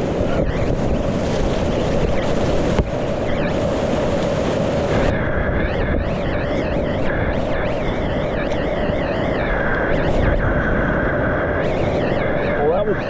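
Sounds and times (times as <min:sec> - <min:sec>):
rushing whitewater: 0:00.0 - 0:13.0
wind buffeting microphone: 0:00.0 - 0:13.0.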